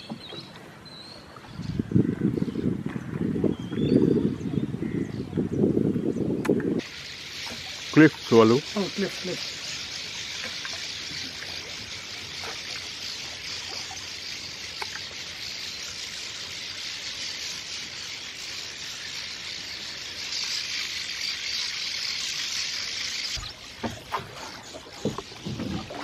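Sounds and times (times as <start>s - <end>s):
swallows twittering: 0.0s - 26.0s.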